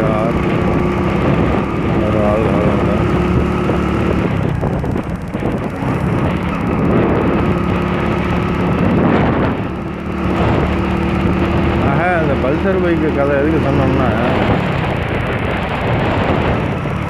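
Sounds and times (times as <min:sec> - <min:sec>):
motorcycle engine cruising: 0:00.0 - 0:17.0
wind rumble on microphone: 0:00.0 - 0:17.0.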